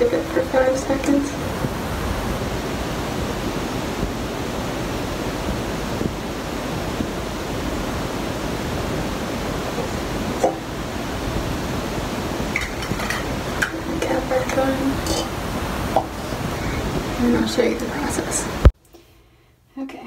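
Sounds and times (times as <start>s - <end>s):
rushing hiss: 0.1s - 18.7s.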